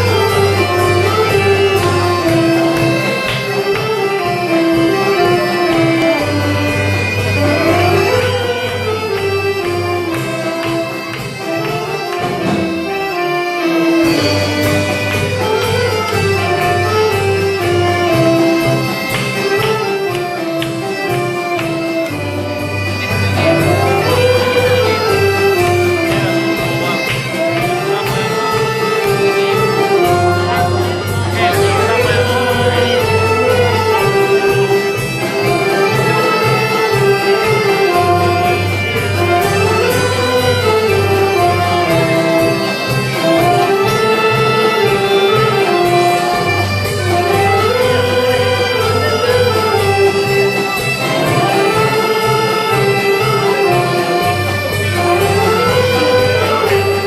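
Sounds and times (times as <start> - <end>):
saxophone ensemble dance tune: 0.0 - 57.0.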